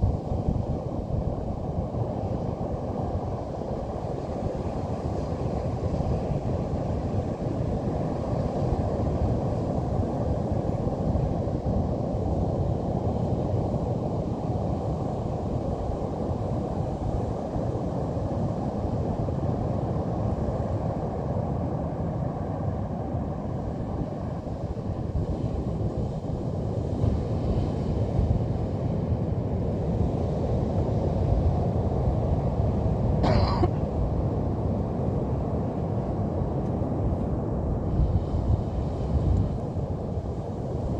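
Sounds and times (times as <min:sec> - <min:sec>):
ocean surf rumble: 0:00.0 - 0:40.9.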